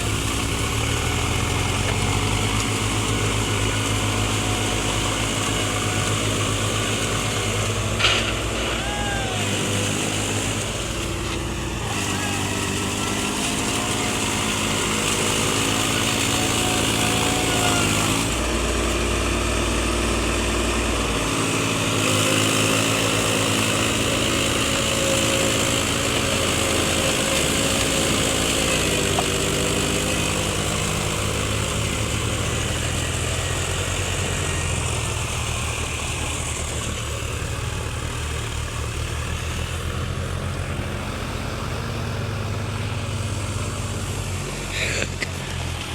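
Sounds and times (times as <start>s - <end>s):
tractor engines running: 0.0s - 45.9s.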